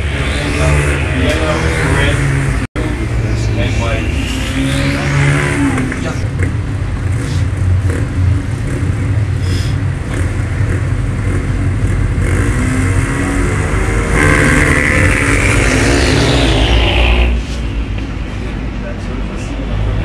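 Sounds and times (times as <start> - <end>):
motorcycles revving and accelerating: 0.0 - 20.0.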